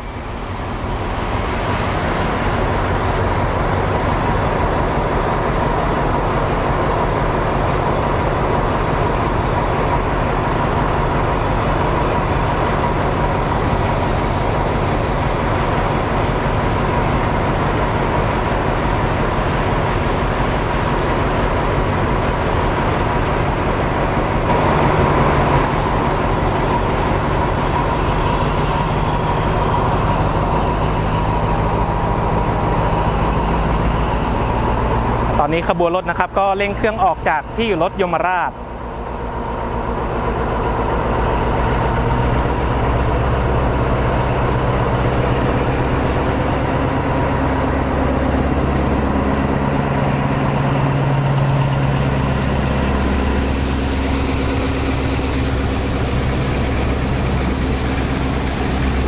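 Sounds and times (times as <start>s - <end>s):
locomotive engine idling: 0.2s - 59.0s.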